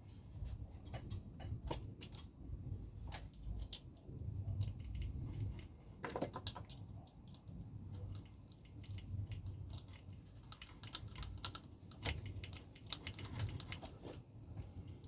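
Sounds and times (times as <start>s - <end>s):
small parts and tools clicking: 0.8s - 2.4s, 3.0s - 14.0s.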